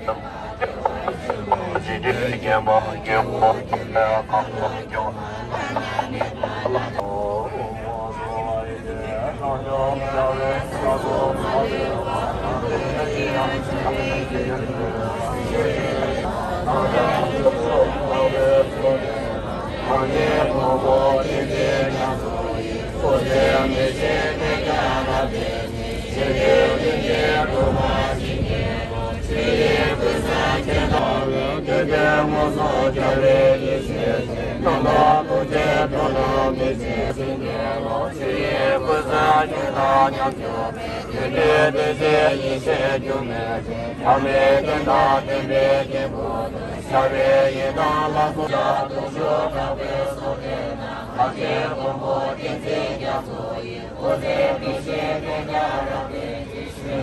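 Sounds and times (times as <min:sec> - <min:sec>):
crowd chanting a prayer: 0:00.0 - 0:57.0.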